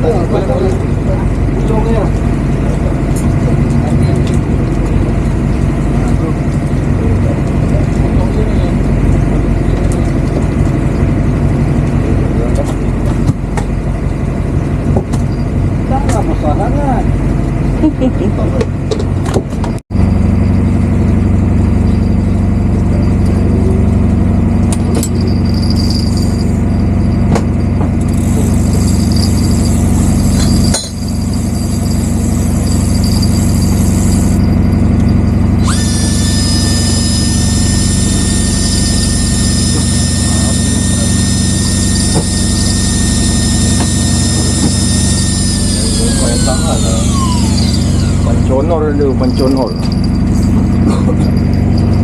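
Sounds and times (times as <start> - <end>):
boat engine droning: 0.0 - 52.0
high-pitched whine: 0.0 - 52.0.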